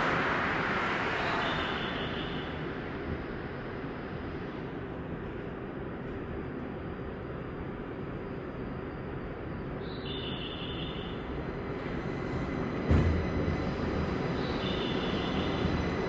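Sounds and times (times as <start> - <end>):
train gliding past with rushing hum: 0.0 - 16.0.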